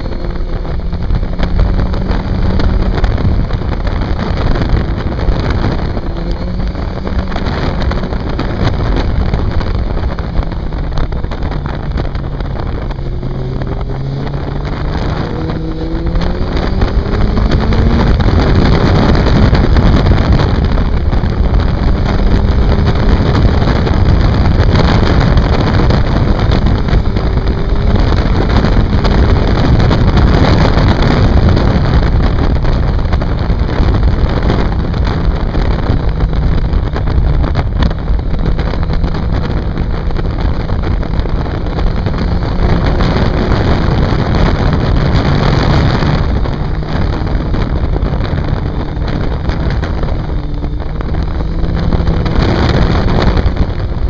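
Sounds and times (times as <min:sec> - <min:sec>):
motorcycle engine revving: 0:00.0 - 0:54.0
wind rushing on microphone: 0:00.0 - 0:54.0.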